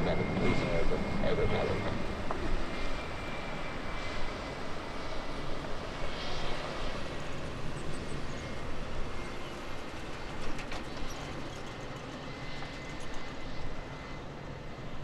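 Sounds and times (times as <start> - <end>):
jet engines rumbling and hissing: 0.0 - 15.0.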